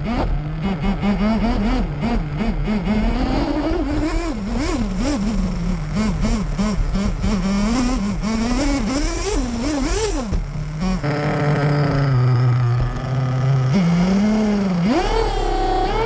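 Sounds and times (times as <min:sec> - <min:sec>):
small engine revving in blips: 0:00.0 - 0:16.0
wind: 0:00.0 - 0:16.0.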